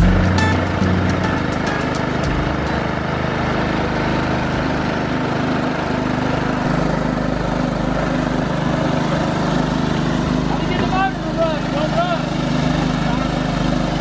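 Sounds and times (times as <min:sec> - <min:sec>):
compressor engine running: 0:00.0 - 0:14.0.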